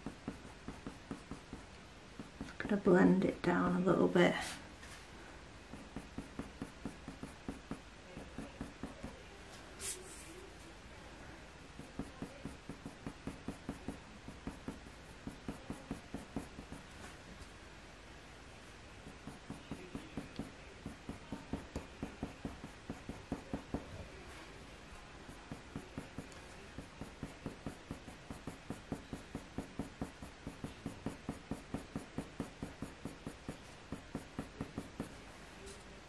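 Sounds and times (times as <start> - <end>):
pencil scratching on paper: 0.0 - 2.9, 5.7 - 10.4, 11.6 - 17.2, 19.0 - 35.2.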